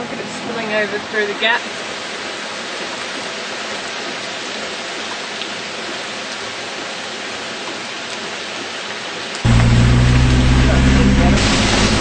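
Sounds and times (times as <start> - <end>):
floodwater rushing through a gap: 0.0 - 12.0.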